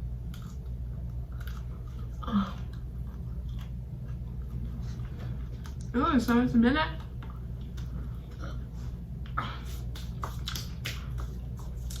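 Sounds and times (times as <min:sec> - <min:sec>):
person chewing food: 0:00.0 - 0:05.9, 0:07.1 - 0:12.0
steady low hum: 0:00.0 - 0:12.0.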